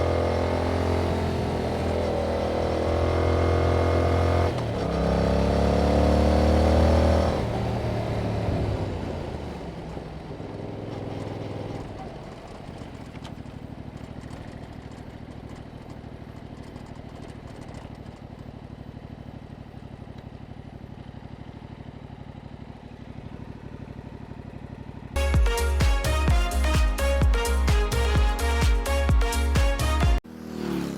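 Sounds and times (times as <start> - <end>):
motorcycle engine revving and idling: 0.0 - 30.9.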